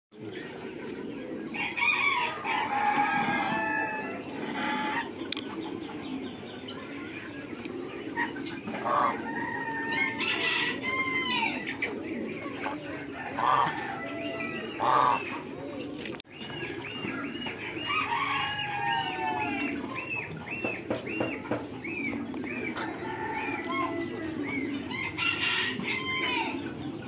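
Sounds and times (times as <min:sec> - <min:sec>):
ducks and goose calling: 0:00.2 - 0:27.0
low background of flock: 0:00.2 - 0:27.0.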